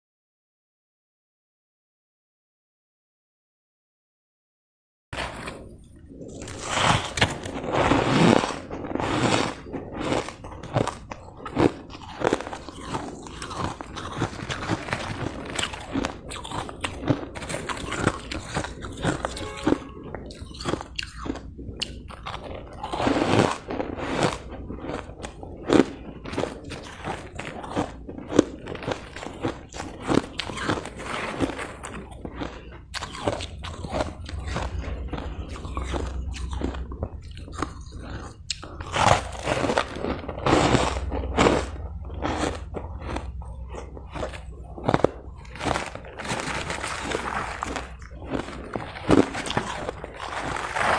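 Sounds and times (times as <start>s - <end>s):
ice being chewed: 5.2s - 50.9s.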